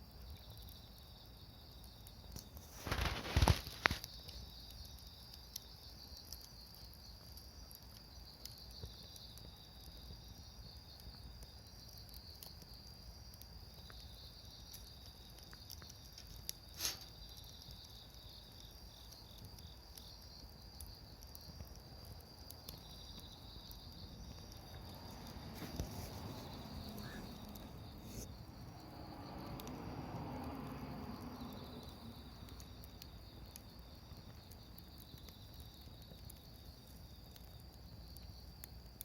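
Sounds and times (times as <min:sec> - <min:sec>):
campfire crackling: 0:00.0 - 0:39.0
fire popping: 0:00.0 - 0:39.0
insects chirping: 0:00.0 - 0:39.0.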